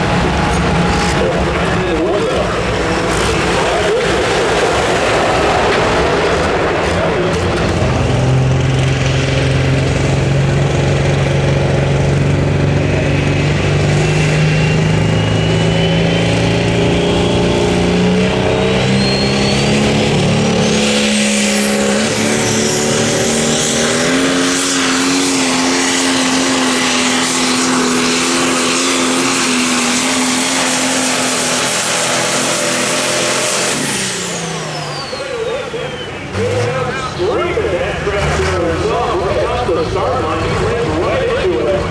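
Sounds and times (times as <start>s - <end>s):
turbocharger whistle: 0.0s - 8.5s, 12.8s - 38.6s
diesel engine running flat out: 0.0s - 41.9s.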